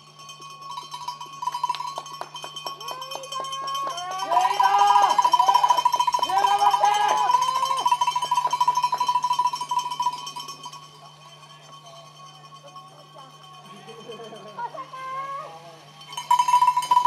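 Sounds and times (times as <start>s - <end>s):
cowbells ringing rapidly: 0.0s - 17.0s
voices shouting encouragement: 2.7s - 17.0s.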